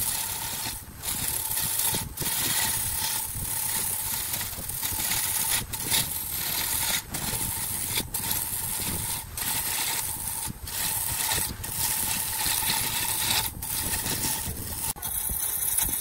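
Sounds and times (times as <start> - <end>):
gouge cutting wood hissing: 0.0 - 16.0
wood lathe whine: 0.0 - 16.0.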